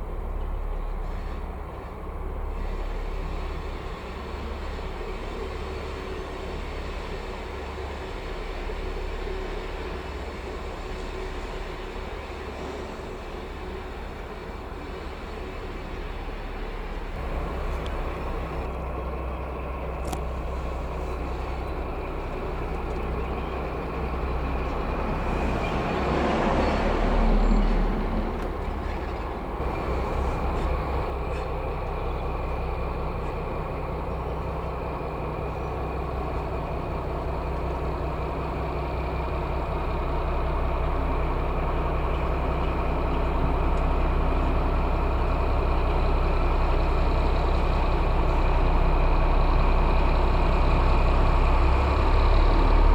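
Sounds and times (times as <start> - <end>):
diesel locomotive engine drone: 0.0 - 52.9.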